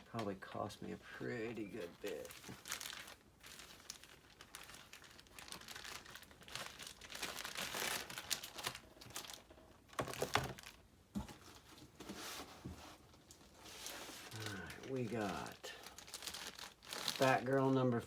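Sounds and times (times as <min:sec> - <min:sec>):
plastic packaging crinkling: 0:01.2 - 0:11.8, 0:13.1 - 0:18.0.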